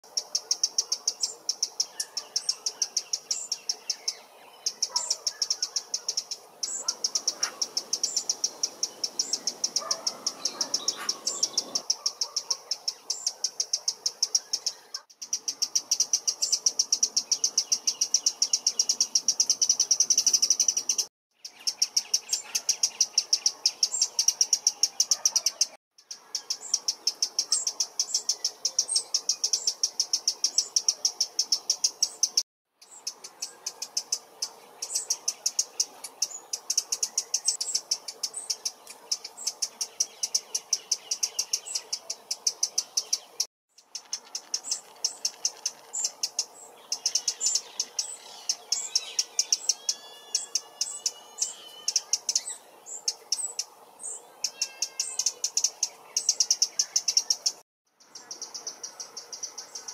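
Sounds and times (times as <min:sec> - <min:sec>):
wren alarm call ticks: 0:00.0 - 0:59.9.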